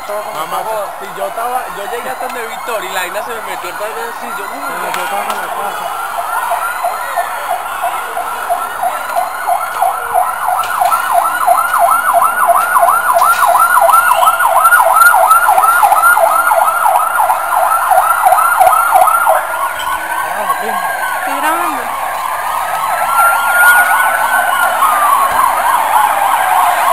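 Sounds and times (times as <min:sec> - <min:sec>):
emergency siren yelping and wailing: 0:00.0 - 0:26.9.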